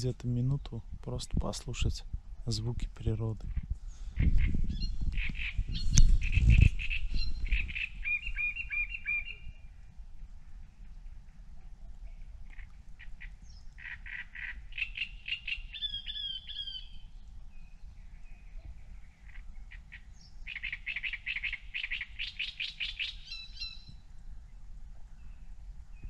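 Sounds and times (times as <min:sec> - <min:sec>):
songbird singing: 0:02.4 - 0:26.0.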